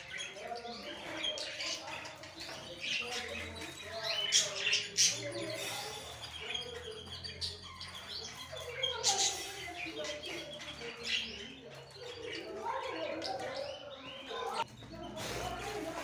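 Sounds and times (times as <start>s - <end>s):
pet birds chirping and calling: 0.0s - 16.0s.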